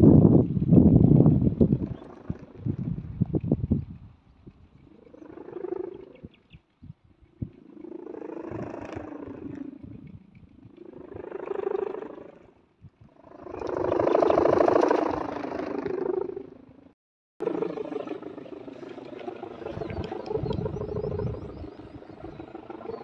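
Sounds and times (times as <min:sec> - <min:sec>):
kite hummer droning in wind: 0:00.0 - 0:23.0.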